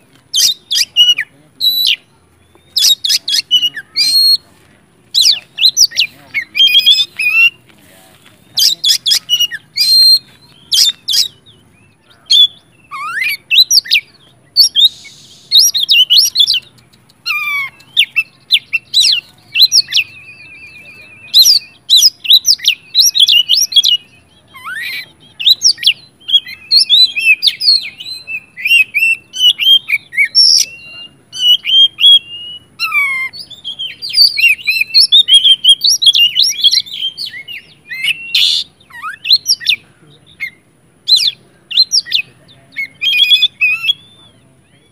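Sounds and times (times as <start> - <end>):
bird singing whistled phrases: 0.3 - 4.4, 5.2 - 7.6, 8.5 - 44.9.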